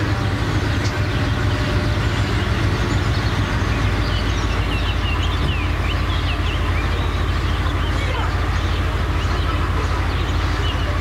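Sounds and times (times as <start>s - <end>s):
birdlike chirps: 0.0s - 11.0s
train engine rumble: 0.0s - 11.0s.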